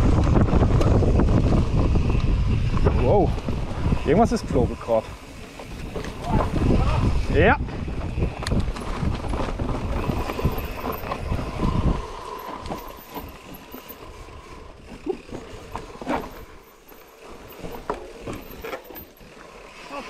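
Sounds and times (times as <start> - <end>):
wind rumble on microphone: 0.0 - 16.6
bike rattling: 0.0 - 20.0
bike tyres rolling over dirt: 0.0 - 20.0.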